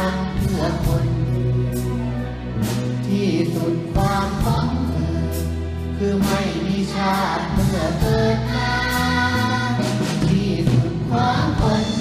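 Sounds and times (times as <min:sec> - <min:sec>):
man singing: 0:00.0 - 0:08.8, 0:09.9 - 0:12.0
symphony orchestra: 0:00.0 - 0:12.0.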